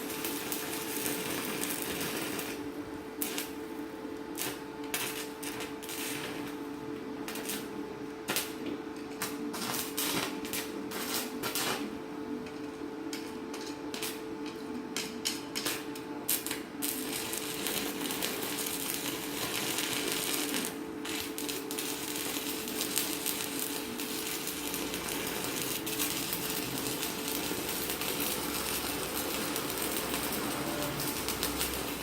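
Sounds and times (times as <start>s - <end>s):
welding arc crackling: 0.0s - 12.0s, 15.0s - 32.0s.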